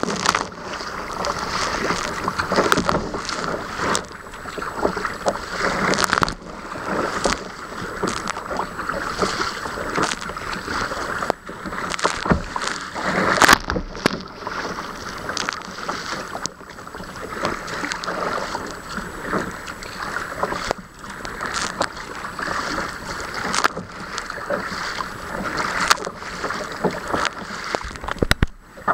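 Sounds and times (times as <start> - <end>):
water rushing over kayak deck: 0.0 - 28.9
waves slapping hull: 0.0 - 28.9.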